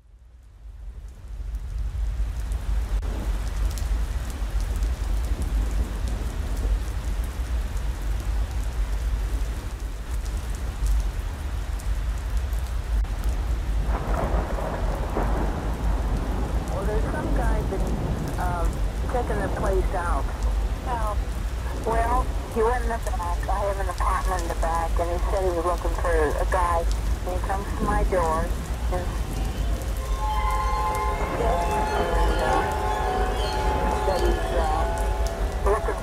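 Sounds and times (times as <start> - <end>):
steady rain: 0.0 - 36.0
low rumble of thunder: 0.2 - 36.0.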